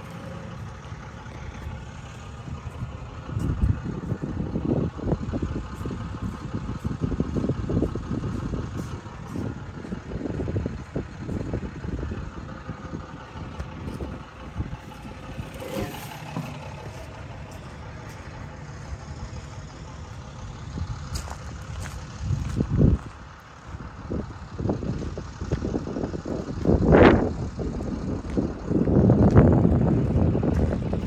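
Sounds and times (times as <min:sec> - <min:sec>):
diesel engine idling: 0:00.0 - 0:31.0
wind buffeting microphone: 0:00.0 - 0:31.0.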